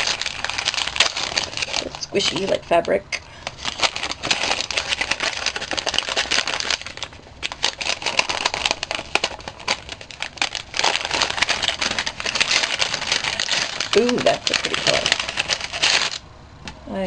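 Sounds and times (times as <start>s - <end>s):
gift wrapping crinkling: 0.0s - 16.2s.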